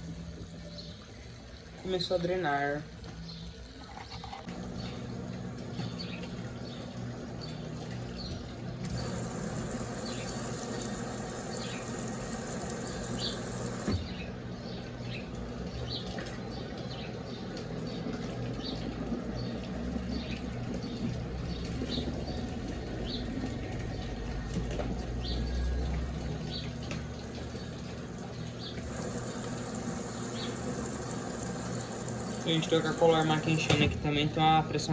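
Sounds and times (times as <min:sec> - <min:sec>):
water running out: 0:00.0 - 0:14.5, 0:15.4 - 0:34.5
drain pump humming: 0:00.0 - 0:34.9.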